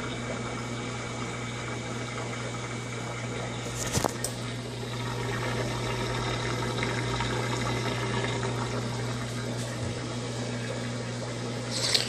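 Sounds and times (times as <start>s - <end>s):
steady electric motor hum: 0.0s - 12.0s
water moving in washing machine: 0.0s - 12.0s.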